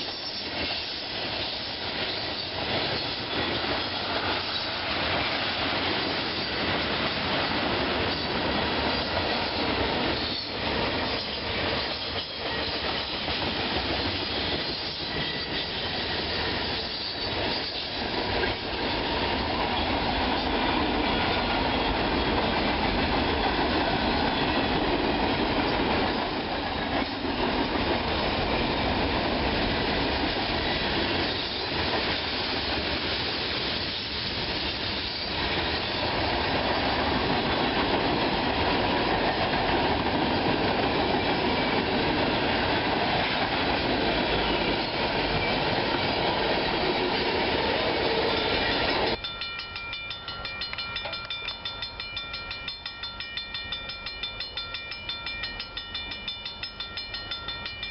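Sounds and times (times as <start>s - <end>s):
train wheels on rails: 0.0s - 57.9s.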